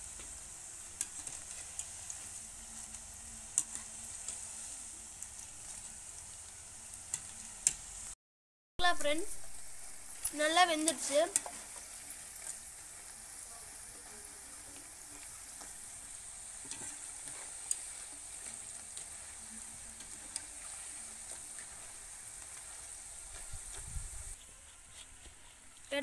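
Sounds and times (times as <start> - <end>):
fritters sizzling in hot oil: 0.0 - 8.2, 8.8 - 26.0.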